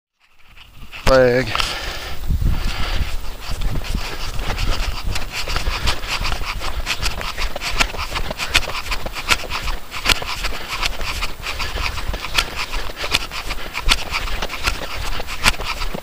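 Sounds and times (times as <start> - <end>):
footsteps crunching through snow: 0.2 - 16.0
wind on microphone: 0.3 - 16.0.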